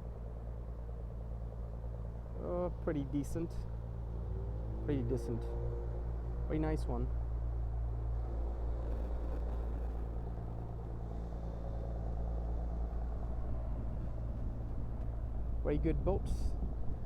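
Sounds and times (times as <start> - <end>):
constant low drone: 0.0 - 17.0
low mechanical rumble: 0.0 - 17.0.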